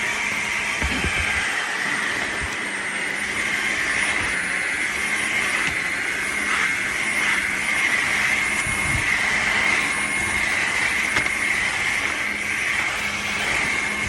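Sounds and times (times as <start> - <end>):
vacuum mop motor whining: 0.0 - 14.0.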